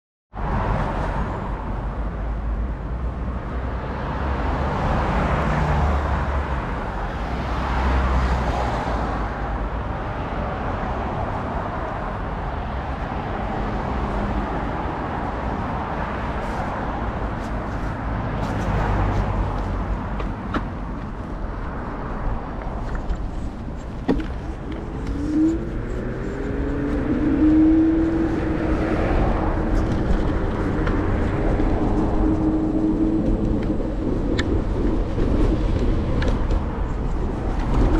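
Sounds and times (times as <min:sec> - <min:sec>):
cars passing: 0:00.3 - 0:37.9
steady traffic hum: 0:00.3 - 0:37.9.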